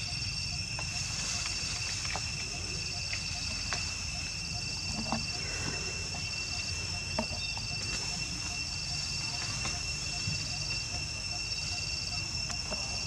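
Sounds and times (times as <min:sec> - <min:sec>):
high-pitched insect drones: 0:00.0 - 0:13.0
pulsing insect trill: 0:00.0 - 0:13.0.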